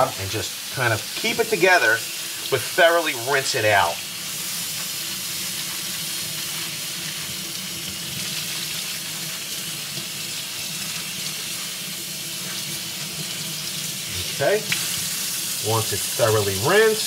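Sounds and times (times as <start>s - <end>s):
faucet water splashing: 0.0s - 17.0s.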